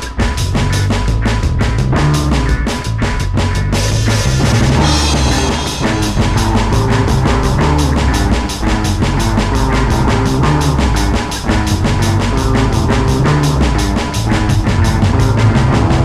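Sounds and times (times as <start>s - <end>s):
rock music with drums and bass: 0.0s - 16.0s.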